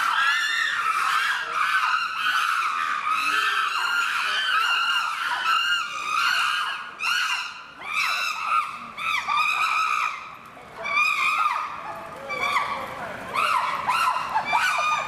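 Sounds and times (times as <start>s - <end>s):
chimpanzees screaming: 0.0s - 15.0s.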